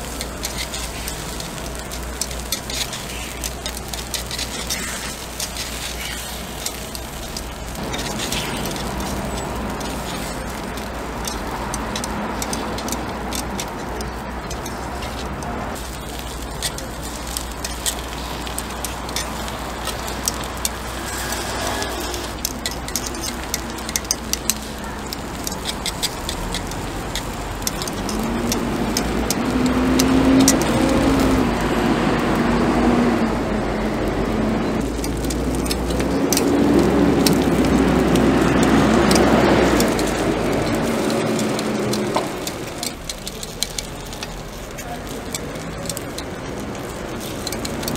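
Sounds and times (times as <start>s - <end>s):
batter sizzling in a pan: 0.0s - 47.9s
metal skewers clicking on a pan: 0.0s - 47.9s
traffic-like rumble: 0.0s - 47.9s.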